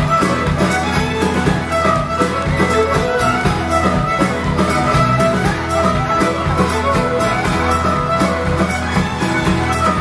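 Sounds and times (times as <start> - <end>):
drum kit steady beat: 0.0 - 10.0
fiddles playing: 0.0 - 10.0
guitars: 0.0 - 10.0.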